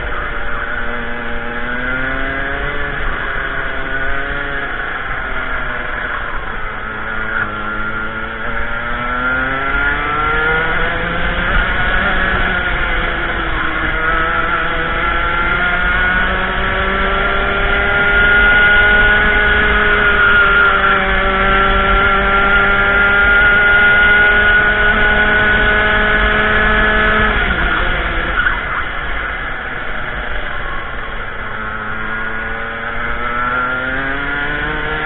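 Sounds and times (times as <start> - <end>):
racing kart engine: 0.0 - 35.0.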